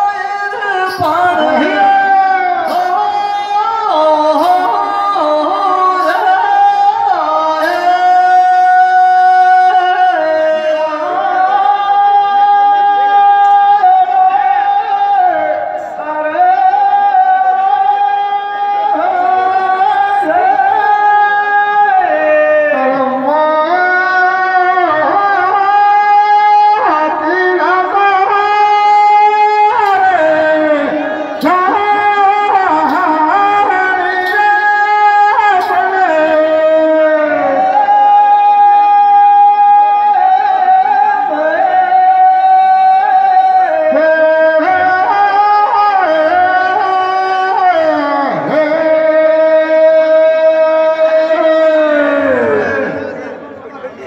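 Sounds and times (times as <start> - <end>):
folk devotional music: 0.0 - 53.2.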